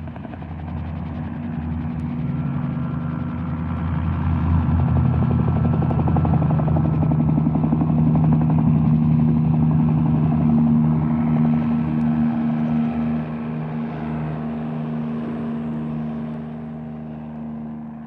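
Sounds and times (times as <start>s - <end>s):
helicopter rotor beating: 0.0s - 18.0s.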